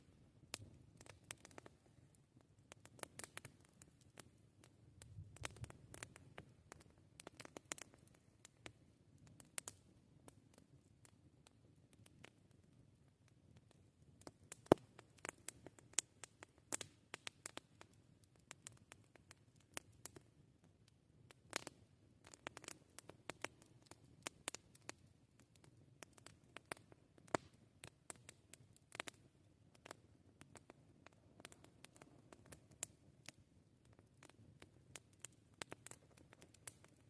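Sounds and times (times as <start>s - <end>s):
campfire crackling: 0.0s - 37.0s
faint low background noise: 0.0s - 37.0s.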